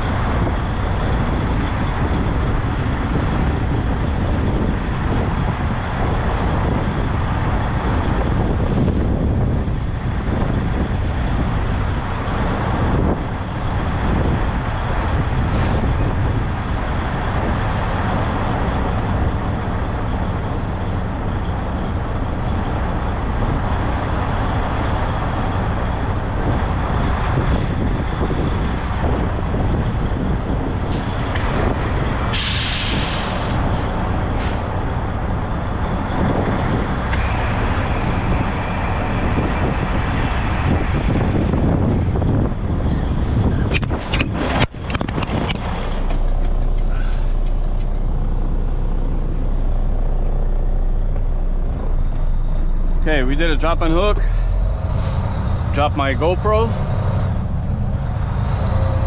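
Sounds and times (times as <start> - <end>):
road and cab noise: 0.0 - 59.0
truck diesel engine running: 0.0 - 59.0.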